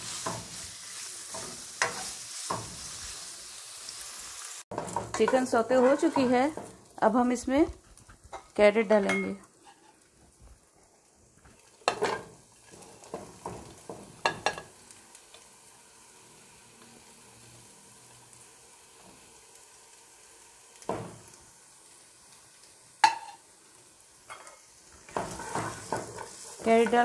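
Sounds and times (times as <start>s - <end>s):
chicken sizzling in a pot: 0.0s - 27.0s.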